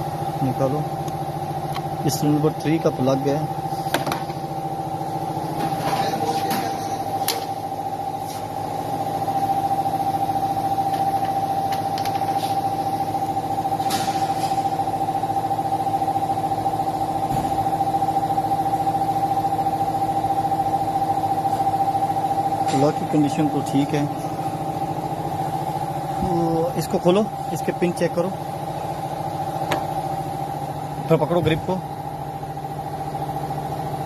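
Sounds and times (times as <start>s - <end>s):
steady mechanical hum with whine: 0.0s - 34.0s.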